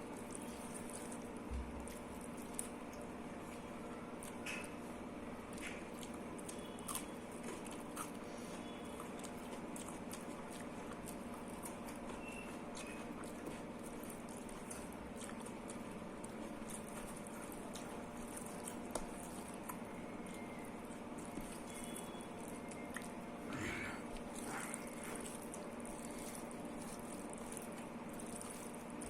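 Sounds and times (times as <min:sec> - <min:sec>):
steady low hum: 0:00.0 - 0:29.0
wet chewing: 0:00.0 - 0:29.0.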